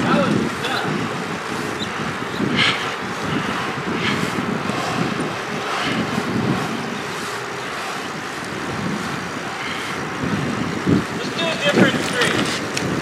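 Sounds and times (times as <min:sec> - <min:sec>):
longboard wheels rolling on asphalt: 0:00.0 - 0:13.0
wind buffeting microphone: 0:00.0 - 0:13.0.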